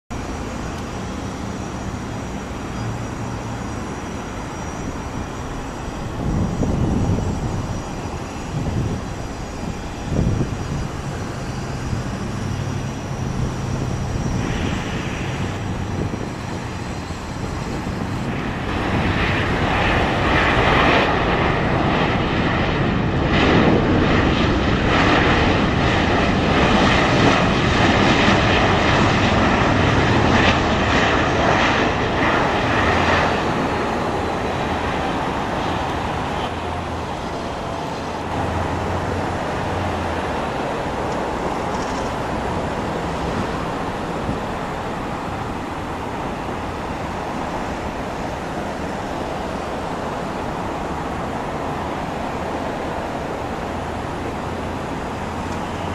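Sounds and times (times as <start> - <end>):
jet engines running loudly: 0.1 - 55.9.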